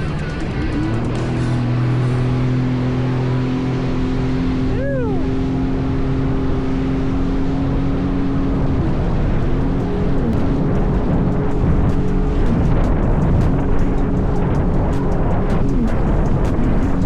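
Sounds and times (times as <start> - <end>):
jet ski engine running: 0.0 - 17.0
water wash: 0.0 - 17.0
wind noise: 0.0 - 17.0.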